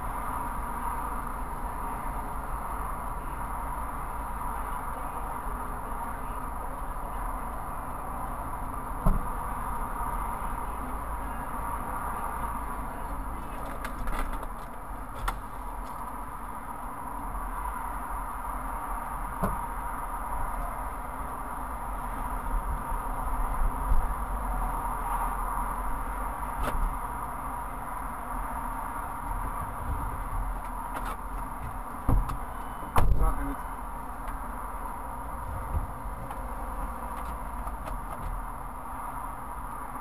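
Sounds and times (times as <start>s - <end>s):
motorway traffic noise: 0.0s - 40.0s
vehicles passing: 0.0s - 40.0s.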